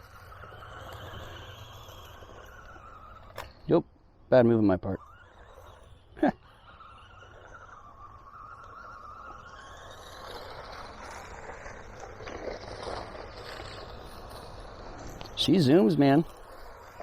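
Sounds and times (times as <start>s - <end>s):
small electric motor whining: 0.0s - 17.0s
tyres on rough ground: 0.0s - 17.0s.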